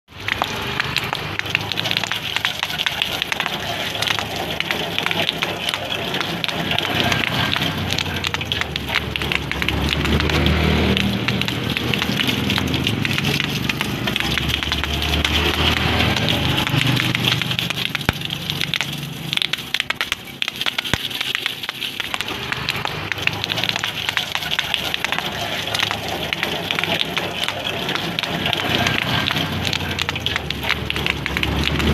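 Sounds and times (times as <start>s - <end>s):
water from hose splashing on metal: 0.1s - 31.9s.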